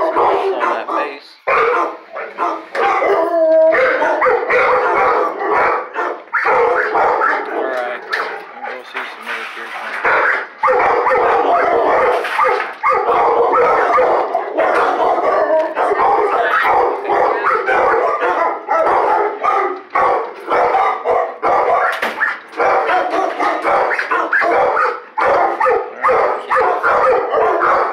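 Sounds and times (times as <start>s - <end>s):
dogs barking: 0.0s - 9.2s, 9.8s - 27.9s.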